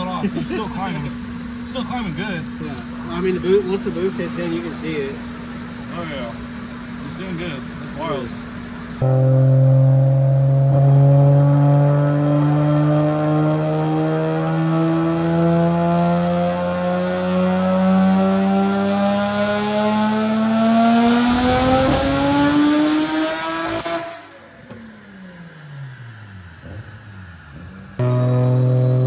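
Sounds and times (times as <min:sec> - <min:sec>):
turbocharged engine revving: 0:00.0 - 0:29.0.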